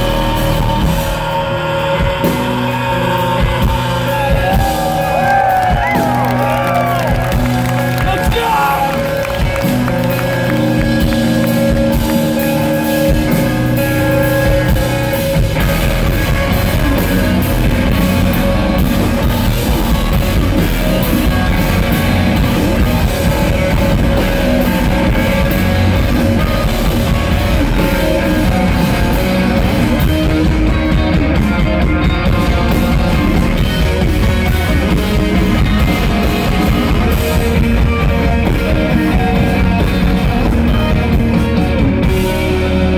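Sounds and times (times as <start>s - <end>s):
bass guitar: 0.0s - 42.9s
drum kit: 0.0s - 42.9s
electric guitars: 0.0s - 42.9s.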